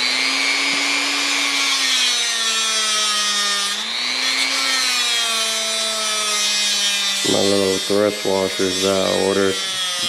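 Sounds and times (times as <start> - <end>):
grinder motor whining: 0.0 - 10.0.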